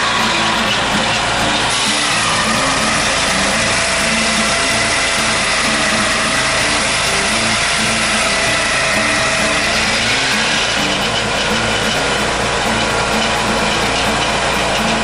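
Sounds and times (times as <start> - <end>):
background music: 0.0 - 15.0
sawmill engine running: 0.0 - 15.0.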